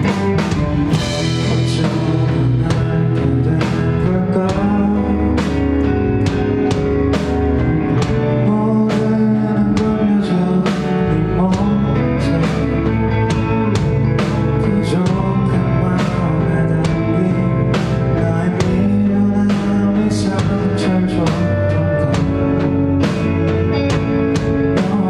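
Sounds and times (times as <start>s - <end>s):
bass guitar: 0.0s - 25.0s
drum kit beat: 0.0s - 25.0s
guitar: 0.0s - 25.0s.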